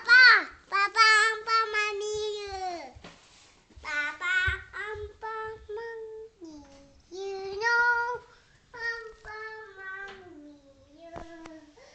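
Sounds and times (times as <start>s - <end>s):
toddler singing: 0.0s - 3.0s, 3.8s - 11.9s.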